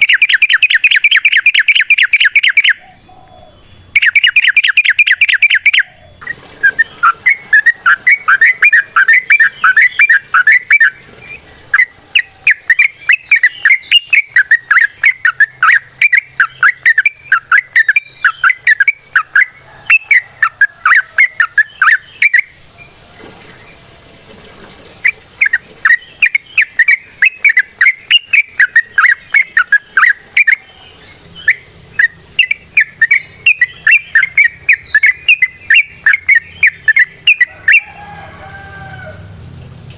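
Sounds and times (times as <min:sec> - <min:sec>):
bulbul rapid chirping song: 0:00.0 - 0:23.0, 0:25.0 - 0:38.1.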